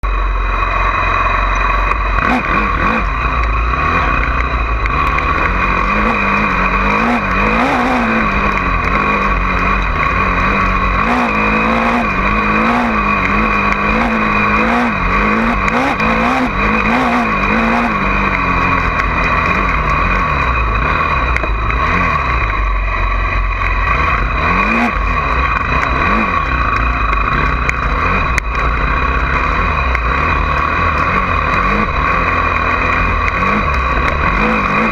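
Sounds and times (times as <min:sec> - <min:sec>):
dirt bike engine revving: 0:00.0 - 0:34.9
steady low rumble: 0:00.0 - 0:34.9.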